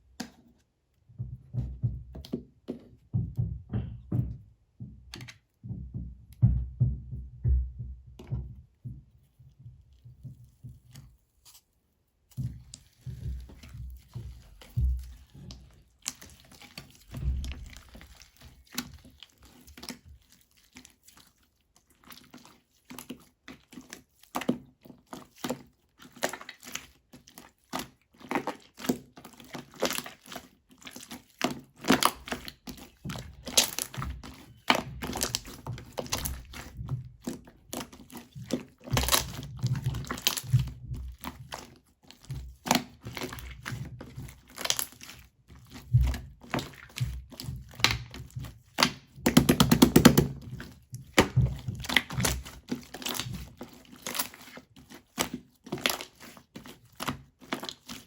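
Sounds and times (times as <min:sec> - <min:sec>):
crinkling and rustling: 0:08.3 - 0:58.0.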